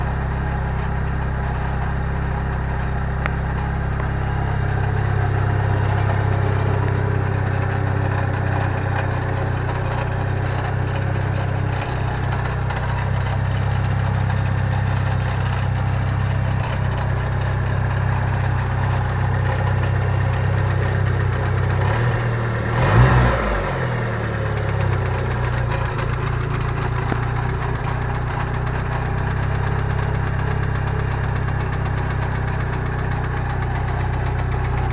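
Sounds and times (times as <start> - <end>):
car engine idling with knock: 0.0 - 34.9.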